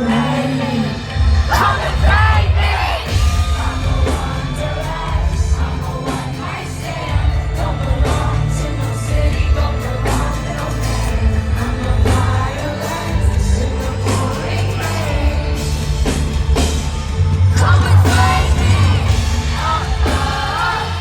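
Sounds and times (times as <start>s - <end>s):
woman singing: 0.0s - 15.7s, 17.5s - 21.0s
bass-driven pop band: 0.0s - 21.0s
crowd yelling and singing along: 0.0s - 21.0s.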